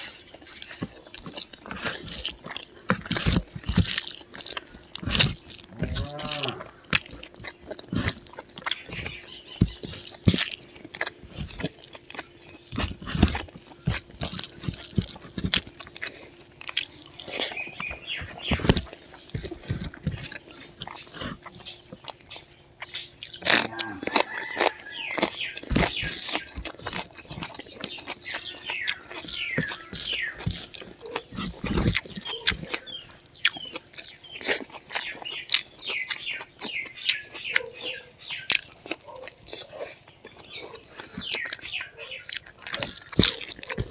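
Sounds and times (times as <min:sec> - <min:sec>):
person chewing food: 0:00.0 - 0:43.9.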